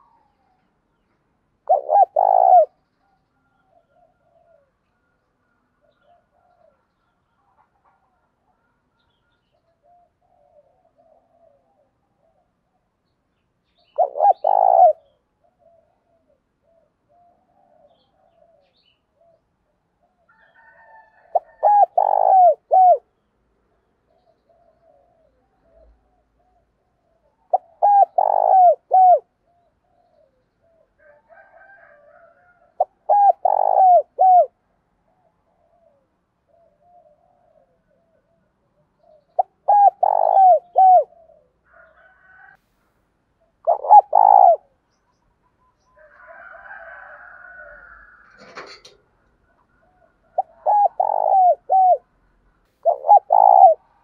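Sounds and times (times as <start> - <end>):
dove cooing: 1.6 - 2.8, 3.4 - 12.9, 13.8 - 23.1, 24.1 - 42.6, 43.4 - 44.8, 46.0 - 52.1, 52.8 - 54.0.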